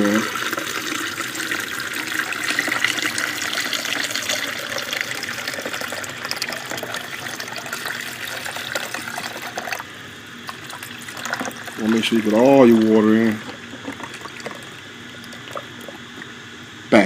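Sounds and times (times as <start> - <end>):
water pouring into reservoir: 0.0 - 16.4.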